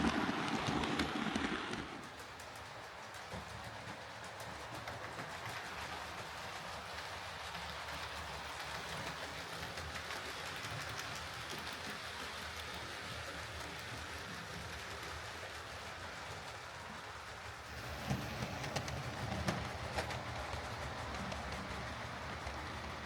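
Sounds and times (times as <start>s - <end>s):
model train whirring on track: 0.0s - 23.0s
wheels clicking over track joints: 0.0s - 23.0s.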